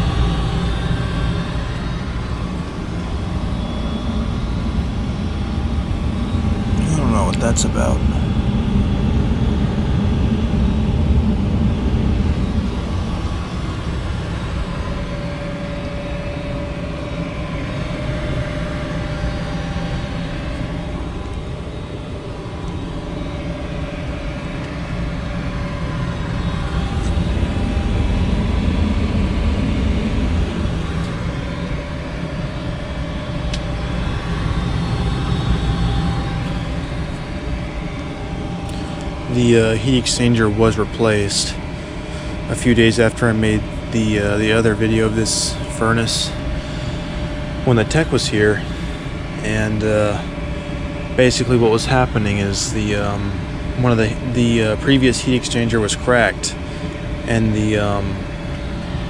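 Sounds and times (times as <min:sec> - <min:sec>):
faint steady whine: 0:00.0 - 0:59.0
gas furnace hum and whoosh: 0:00.0 - 0:59.0.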